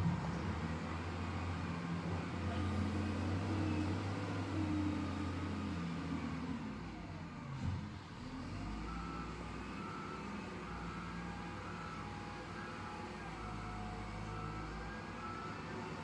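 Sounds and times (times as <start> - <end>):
wheel loader diesel engine: 0.0 - 16.0.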